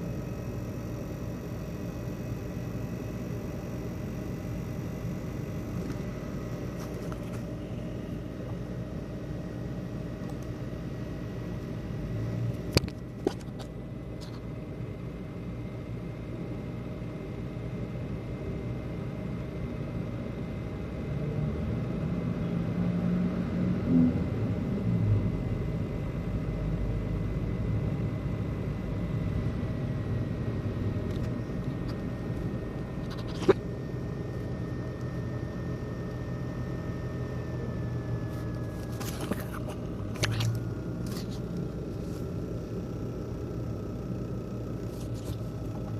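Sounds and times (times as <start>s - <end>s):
laptop fan buzzing rattle: 0.0s - 45.9s
thin steady whine: 0.0s - 45.9s.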